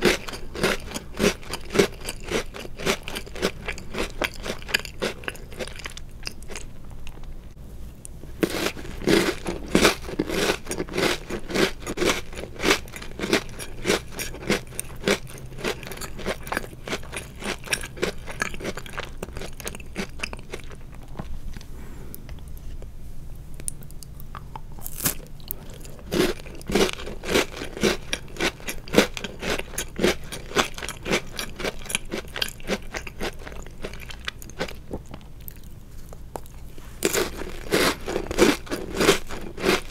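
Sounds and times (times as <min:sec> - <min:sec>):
crisp crunching of cookies: 0:00.0 - 0:07.3, 0:08.4 - 0:21.7, 0:23.7 - 0:39.9
soft chewing: 0:00.0 - 0:39.9.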